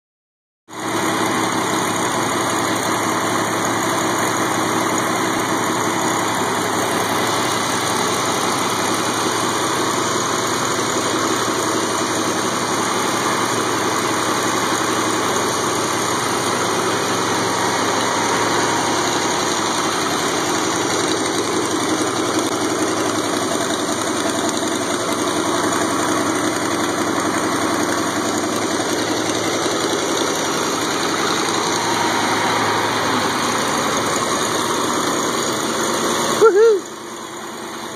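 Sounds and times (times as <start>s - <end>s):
engine idling: 0.7s - 37.9s.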